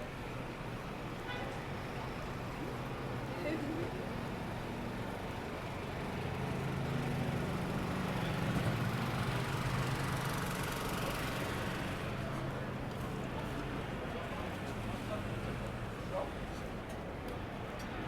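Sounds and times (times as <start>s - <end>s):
city traffic noise: 0.0s - 18.0s.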